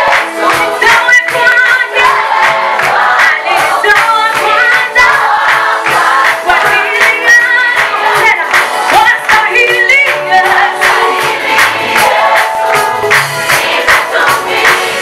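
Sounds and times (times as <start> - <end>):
group singing: 0.0 - 15.0
steady beat: 0.0 - 15.0.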